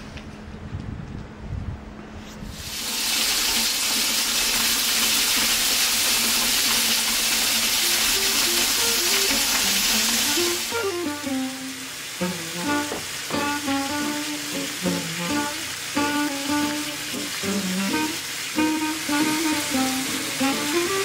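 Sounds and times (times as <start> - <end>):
food sizzling in a pan: 2.6 - 21.0.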